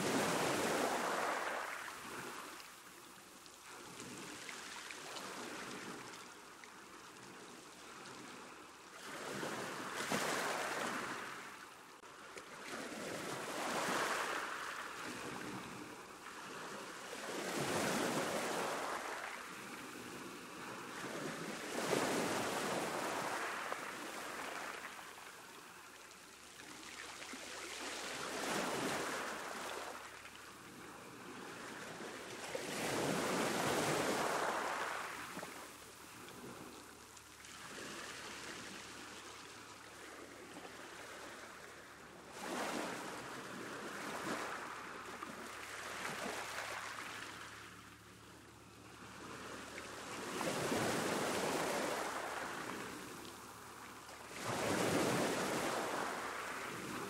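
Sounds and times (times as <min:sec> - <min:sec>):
ocean waves breaking on a beach: 0:00.0 - 0:57.0.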